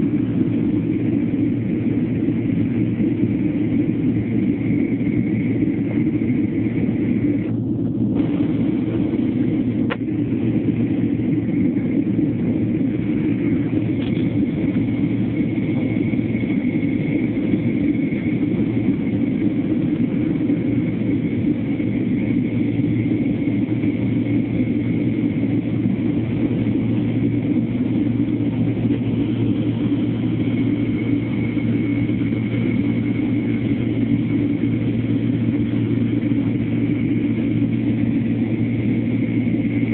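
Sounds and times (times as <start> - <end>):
airliner cabin engine rumble: 0.0 - 39.9
faint high whine: 0.0 - 39.9.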